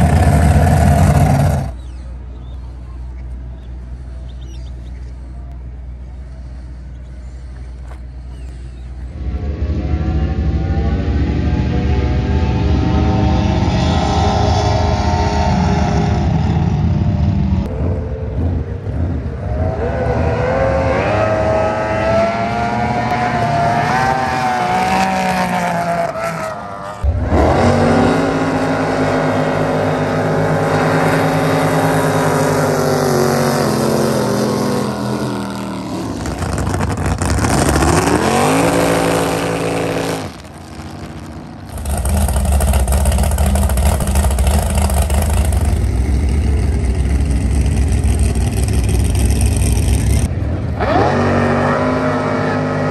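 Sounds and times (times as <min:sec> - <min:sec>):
low engine rumble: 0:00.0 - 0:50.8
racing boat engines accelerating: 0:00.0 - 0:52.9.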